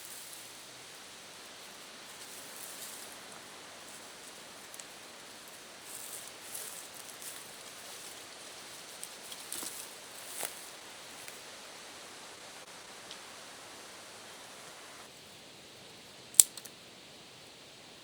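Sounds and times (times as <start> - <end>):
outdoor hiss: 0.0 - 18.0.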